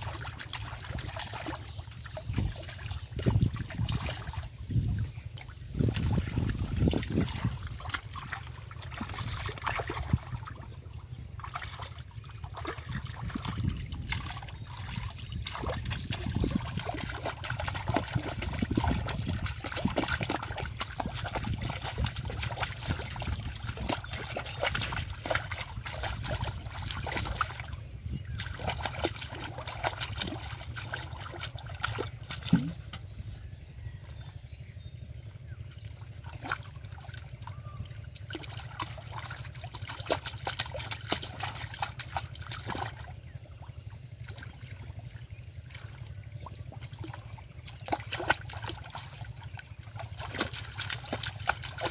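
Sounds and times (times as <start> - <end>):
hands splashing in muddy water: 0.0 - 33.2, 35.8 - 51.9.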